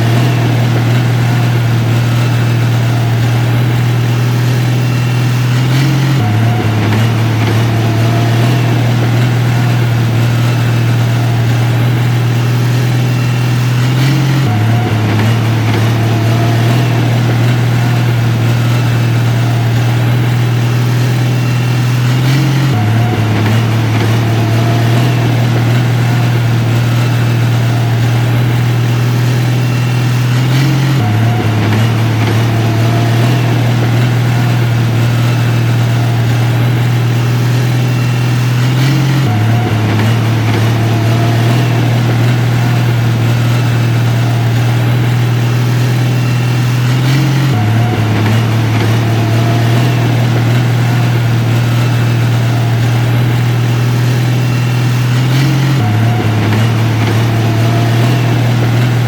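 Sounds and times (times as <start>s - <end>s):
heavy machinery diesel engine droning: 0.0s - 59.0s.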